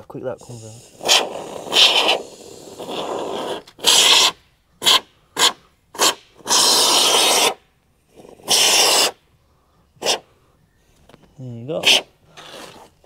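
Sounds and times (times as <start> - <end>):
aerosol foam spurts hissing: 0.3 - 9.2, 10.0 - 10.3, 11.7 - 13.0.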